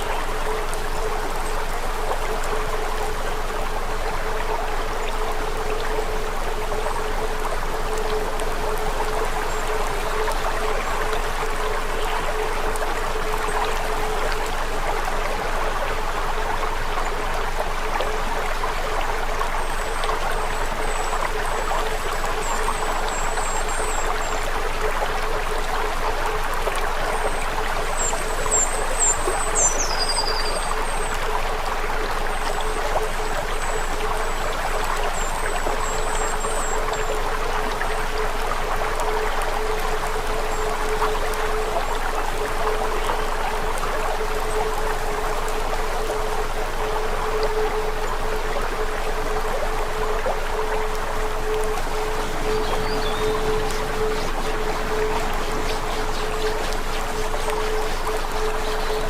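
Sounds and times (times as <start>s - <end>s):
faint steady hum: 0.0s - 59.0s
rushing water: 0.0s - 59.0s.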